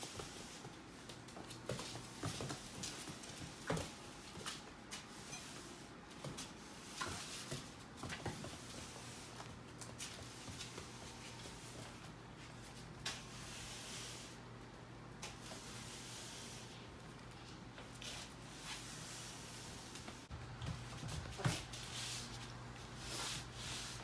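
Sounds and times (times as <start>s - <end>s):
push broom sweeping: 0.0s - 14.4s, 15.2s - 16.9s, 17.8s - 24.0s.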